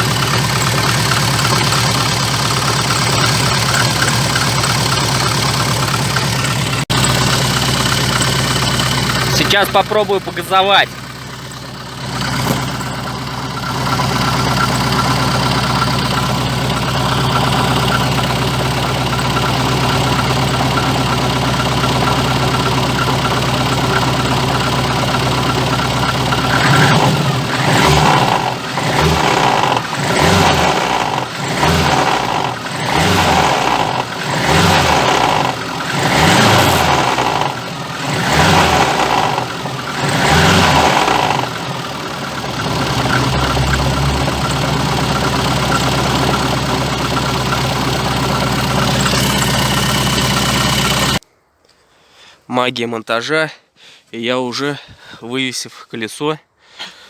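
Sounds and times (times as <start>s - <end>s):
car engine revving: 0.0s - 51.2s.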